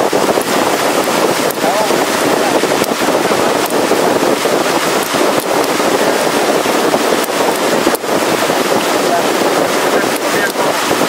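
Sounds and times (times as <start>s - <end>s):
sharp crackles: 0.0s - 11.0s
water rushing along hull: 0.0s - 11.0s
wind on microphone: 0.0s - 11.0s.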